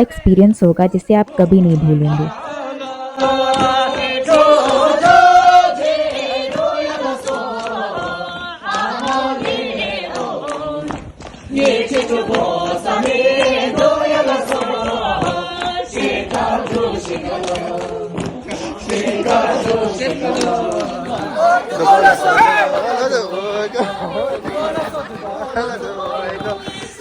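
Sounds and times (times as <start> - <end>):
group singing a folk song: 2.1 - 27.0.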